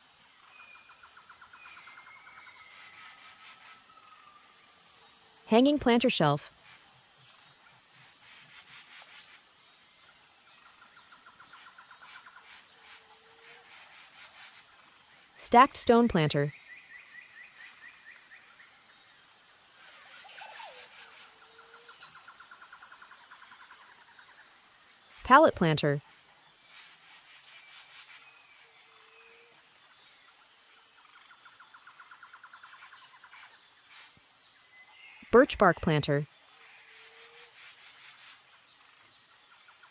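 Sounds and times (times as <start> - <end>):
high insect hum: 0.0 - 5.8, 6.4 - 15.4, 16.5 - 25.2, 26.0 - 35.3, 36.2 - 39.9.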